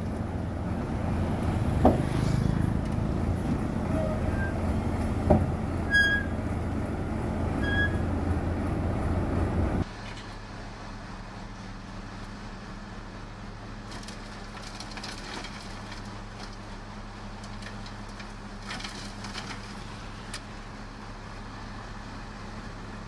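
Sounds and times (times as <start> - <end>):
diesel engine of heavy machinery: 0.0 - 23.0.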